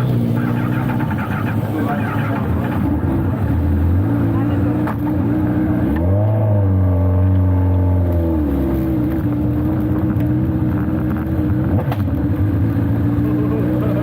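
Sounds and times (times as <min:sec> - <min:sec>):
sidecar engine running hard: 0:00.0 - 0:14.0.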